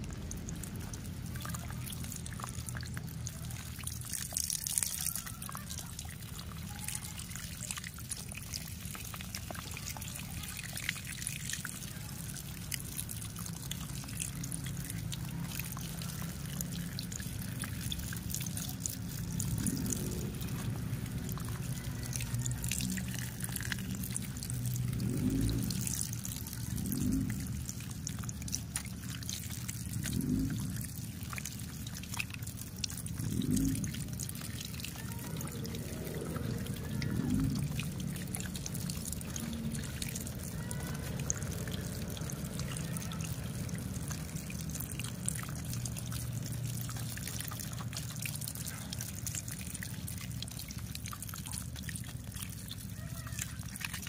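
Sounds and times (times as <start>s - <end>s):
water splashing onto plastic toy: 0.0s - 54.0s
water trickling and dripping: 0.0s - 54.0s.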